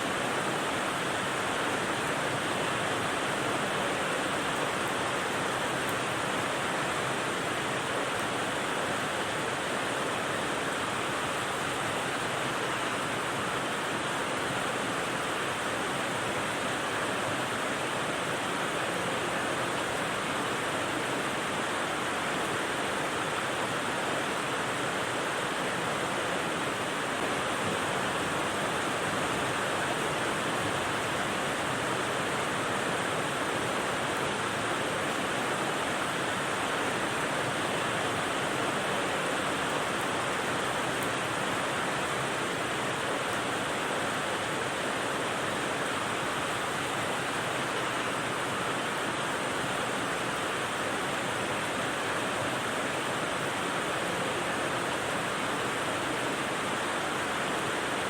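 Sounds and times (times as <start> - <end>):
steady rain rush: 0.0 - 58.0.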